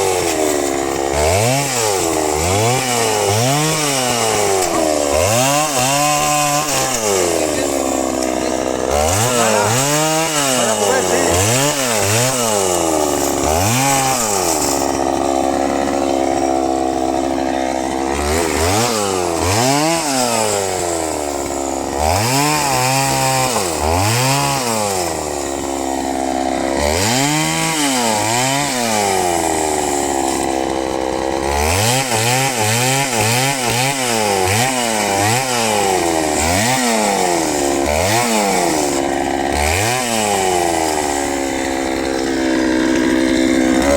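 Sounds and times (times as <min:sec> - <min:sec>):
chainsaw engine revving: 0:00.0 - 0:43.9.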